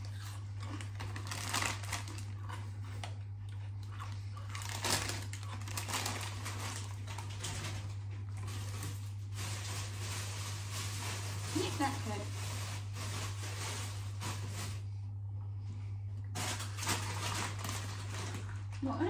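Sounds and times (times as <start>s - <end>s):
crisp packets crinkling: 0.0s - 3.2s, 3.9s - 14.9s, 16.4s - 18.9s
steady low hum: 0.0s - 19.0s.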